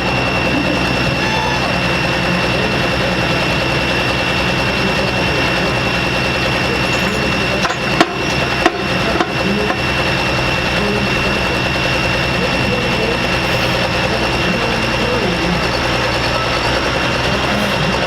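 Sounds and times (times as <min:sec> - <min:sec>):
diesel tractor engine at high revs: 0:00.0 - 0:18.0
high whine: 0:00.0 - 0:18.0.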